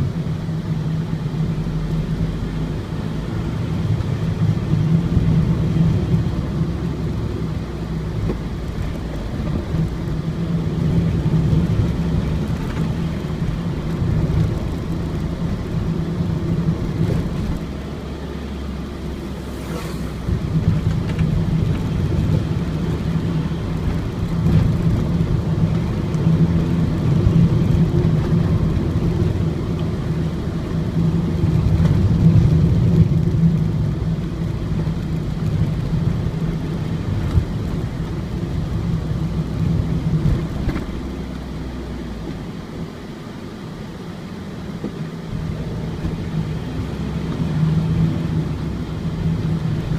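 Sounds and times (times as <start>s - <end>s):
diesel van engine droning: 0.0s - 49.9s
tyre and road noise: 0.0s - 49.9s.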